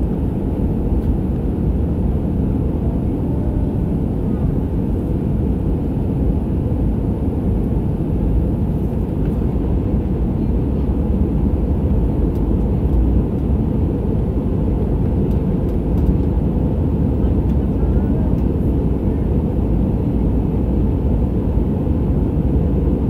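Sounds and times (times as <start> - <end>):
jet engine and rushing air in cabin: 0.0 - 23.0.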